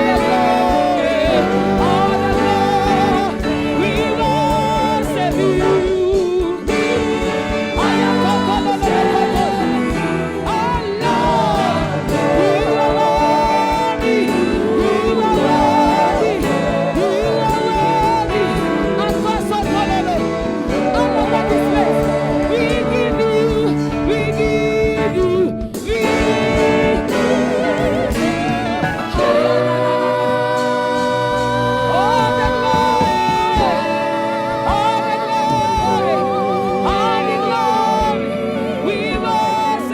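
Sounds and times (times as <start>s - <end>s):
gospel singing: 0.0s - 39.9s
sustained keyboard accompaniment: 0.0s - 39.9s.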